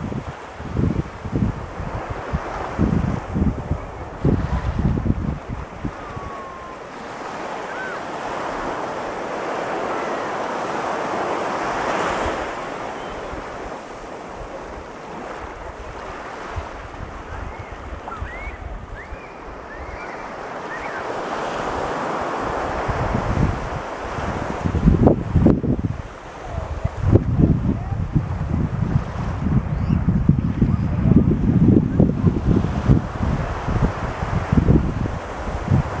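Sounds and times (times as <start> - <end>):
surf breaking on beach: 0.0 - 36.0
wind buffeting microphone: 0.0 - 36.0.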